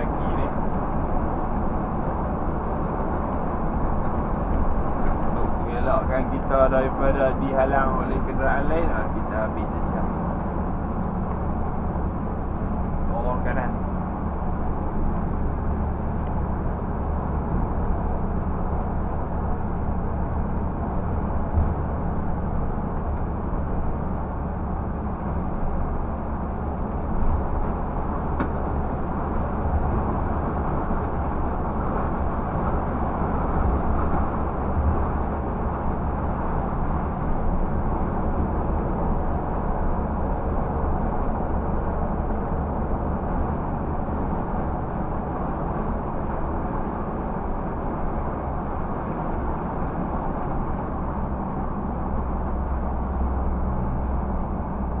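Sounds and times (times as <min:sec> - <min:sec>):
bus engine droning: 0:00.0 - 0:55.0
road noise: 0:00.0 - 0:55.0.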